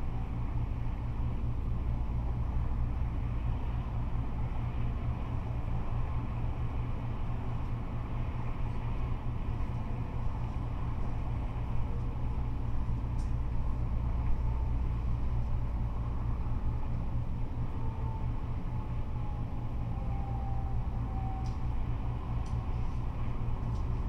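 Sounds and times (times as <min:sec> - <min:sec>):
freeway traffic rumble: 0:00.0 - 0:24.0.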